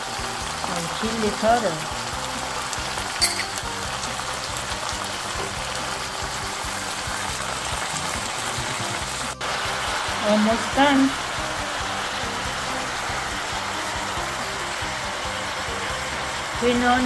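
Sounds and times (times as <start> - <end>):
onions sizzling in a pan: 0.0 - 17.0.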